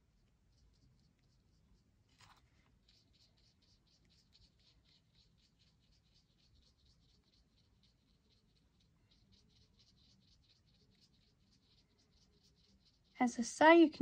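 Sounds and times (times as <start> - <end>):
brush pen strokes on card: 0.0 - 14.0.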